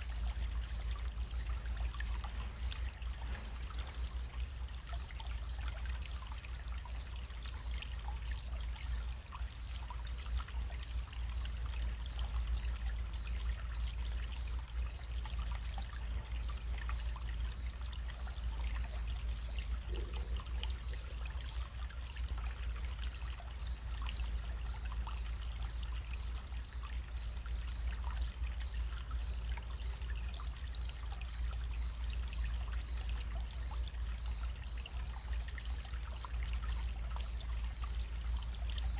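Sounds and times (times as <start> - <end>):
small stream trickling: 0.0 - 38.9.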